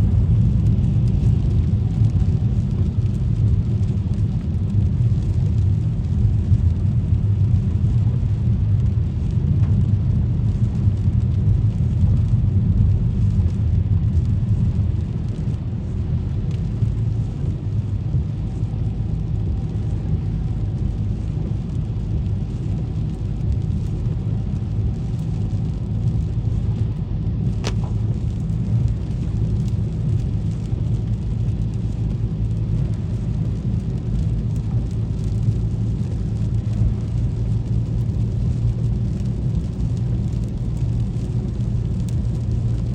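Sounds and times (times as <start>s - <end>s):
car driving on wet streets: 0.0s - 42.9s.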